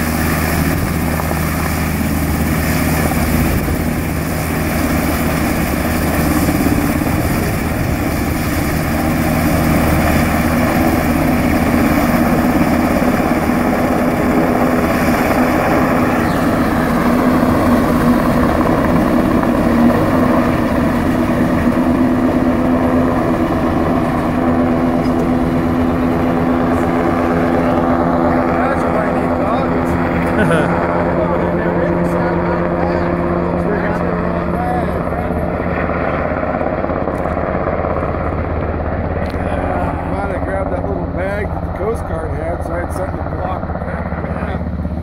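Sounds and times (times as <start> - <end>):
helicopter rotor and turbine: 0.0 - 45.0.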